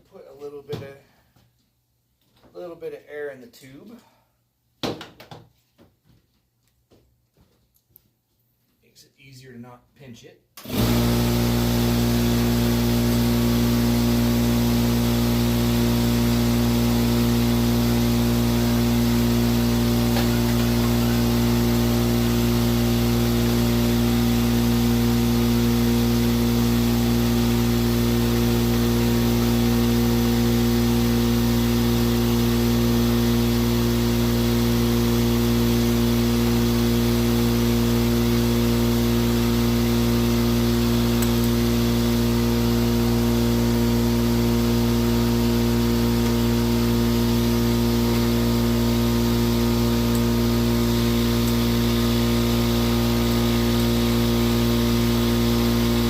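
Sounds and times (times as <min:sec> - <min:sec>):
air compressor running: 0:10.6 - 0:56.0.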